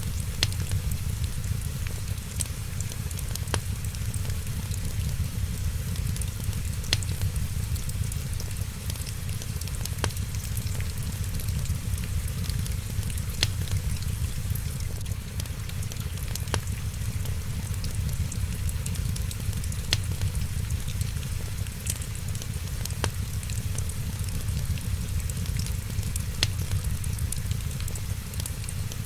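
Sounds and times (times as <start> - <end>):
fire popping: 0.0 - 29.0
wood fire crackling: 0.0 - 29.0.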